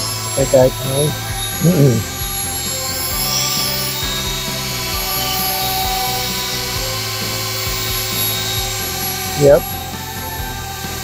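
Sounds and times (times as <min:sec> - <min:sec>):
electric drill running: 0:00.0 - 0:11.0.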